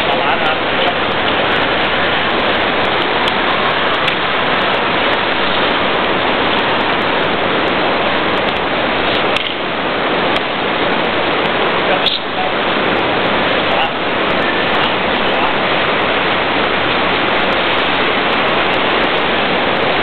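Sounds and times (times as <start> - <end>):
loud rushing noise: 0.0 - 20.0.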